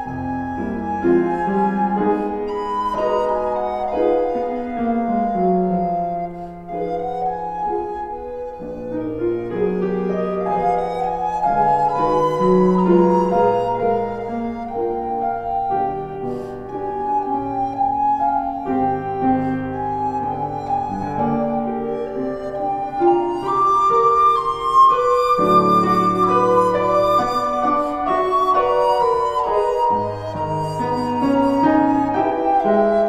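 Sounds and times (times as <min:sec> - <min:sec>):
piano accompaniment: 0:00.0 - 0:33.0
recorder melody: 0:00.0 - 0:33.0.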